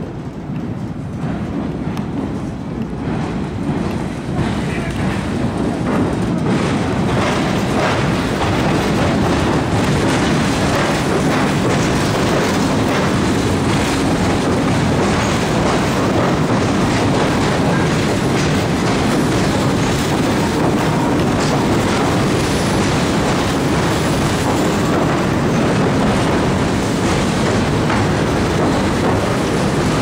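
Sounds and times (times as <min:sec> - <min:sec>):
train wheels clattering on bridge: 0:00.0 - 0:30.0.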